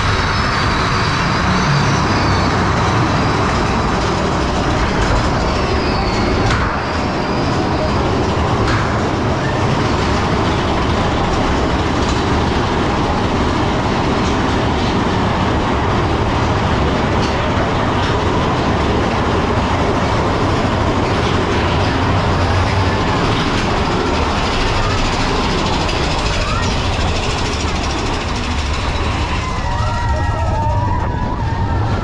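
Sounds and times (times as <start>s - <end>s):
roller coaster cars rumbling: 0.0s - 32.0s
track clacks: 0.0s - 32.0s.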